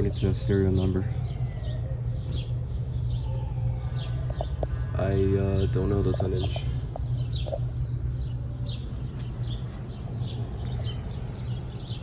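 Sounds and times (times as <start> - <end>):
air conditioning unit humming: 0.0 - 12.0
birds chirping: 0.0 - 12.0.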